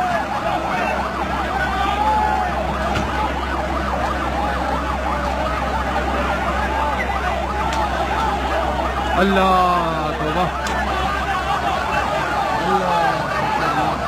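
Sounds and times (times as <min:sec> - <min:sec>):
crowd noise: 0:00.0 - 0:14.0
emergency siren yelping: 0:00.0 - 0:14.0.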